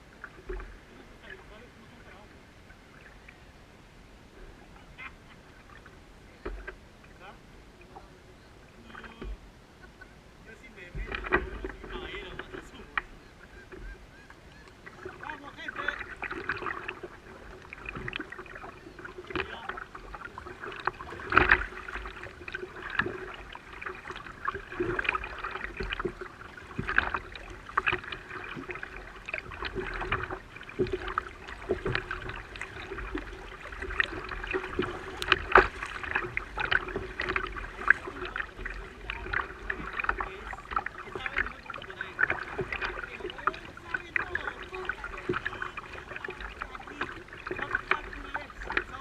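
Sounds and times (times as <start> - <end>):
water sloshing against hull: 0.0 - 49.0
boat and paddle knocks: 4.4 - 49.0.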